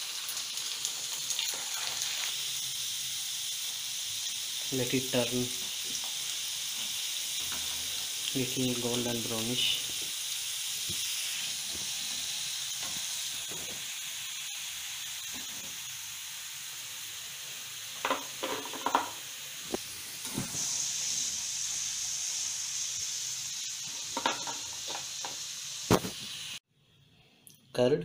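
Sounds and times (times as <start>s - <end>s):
chicken deep-frying in oil: 0.0s - 26.6s.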